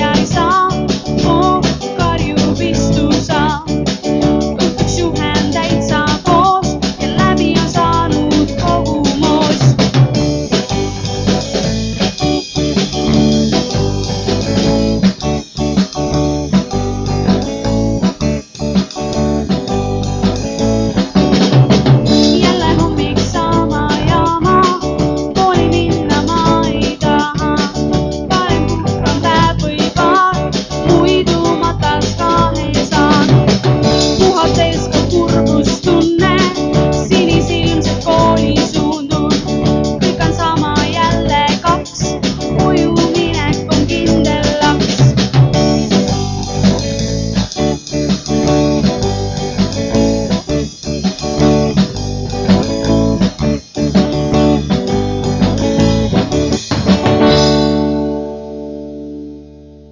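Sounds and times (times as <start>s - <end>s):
drum kit beat: 0.0s - 58.6s
bass guitar: 0.0s - 59.9s
electric guitar: 0.0s - 59.9s.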